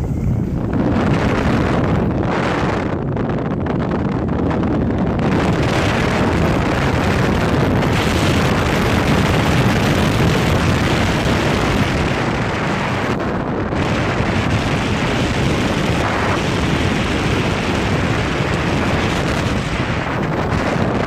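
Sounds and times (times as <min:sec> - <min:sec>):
road and tyre noise: 0:00.0 - 0:21.0
wind buffeting microphone: 0:00.0 - 0:21.0.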